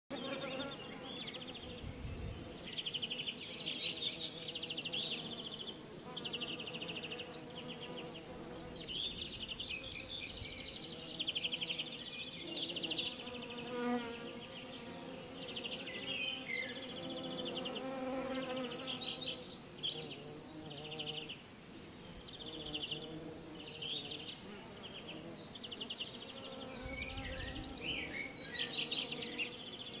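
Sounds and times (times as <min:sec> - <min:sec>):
bees buzzing past: 0:00.1 - 0:30.0
bees swarm humming: 0:00.1 - 0:30.0.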